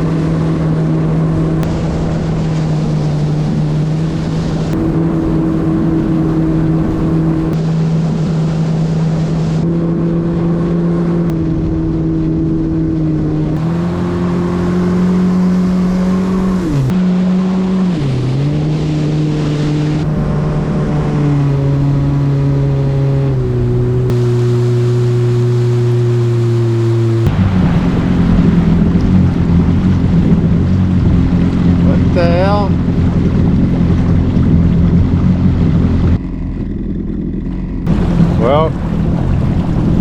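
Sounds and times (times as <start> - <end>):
personal watercraft engine running: 0.0 - 40.0.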